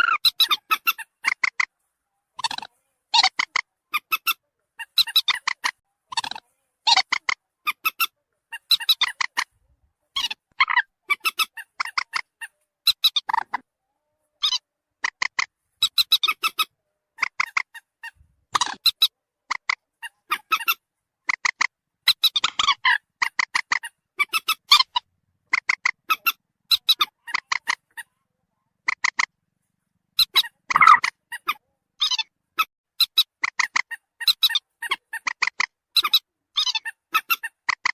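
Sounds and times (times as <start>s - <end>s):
moorhen calls: 0.0s - 1.7s, 2.4s - 9.5s, 10.1s - 28.2s, 28.8s - 29.3s, 30.2s - 37.9s.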